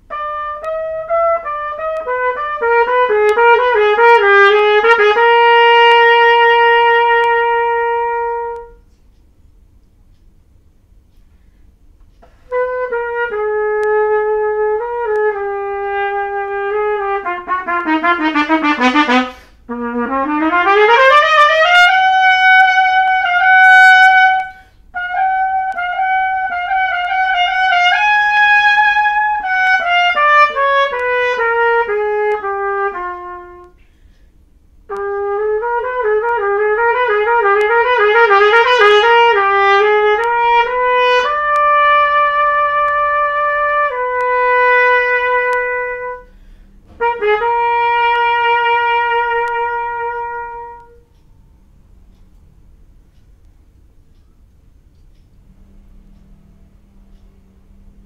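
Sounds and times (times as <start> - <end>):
solo trumpet: 0.0 - 9.0, 12.1 - 51.3.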